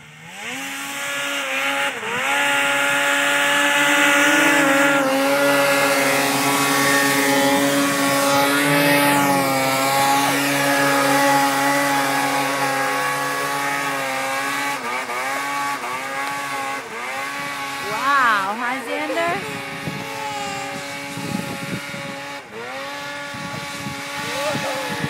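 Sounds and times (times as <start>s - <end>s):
snowmobile engine revving: 0.0s - 25.0s.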